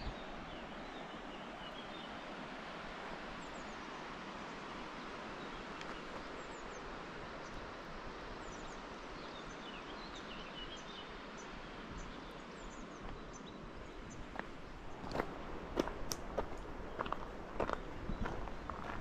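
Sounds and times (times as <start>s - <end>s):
small birds chirping: 0.0s - 2.4s, 3.3s - 19.0s.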